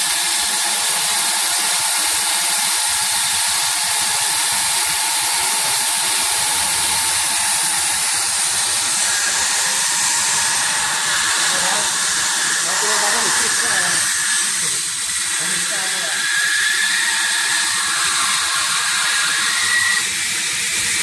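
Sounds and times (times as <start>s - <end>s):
hot air hissing from nozzle: 0.0s - 21.0s.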